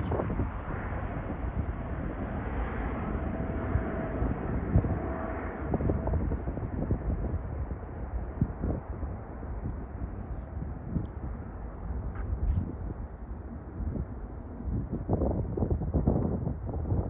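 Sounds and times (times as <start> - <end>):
faint jet engine whine: 0.0 - 17.0
jet engines rumbling: 0.0 - 17.0.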